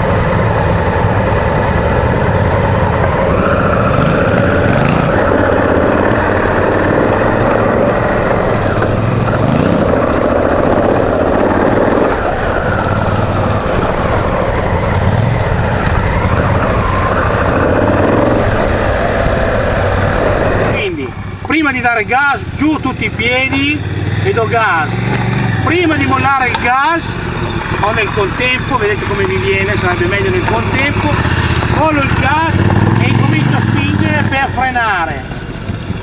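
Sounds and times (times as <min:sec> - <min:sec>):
motorcycle engine revving: 0:00.0 - 0:36.0
steady rushing noise: 0:00.0 - 0:36.0.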